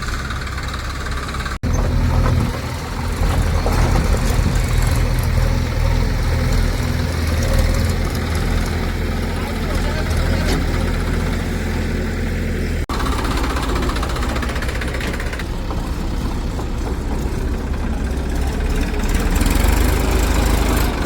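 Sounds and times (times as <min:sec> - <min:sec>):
diesel machinery engine humming: 0:00.0 - 0:21.0.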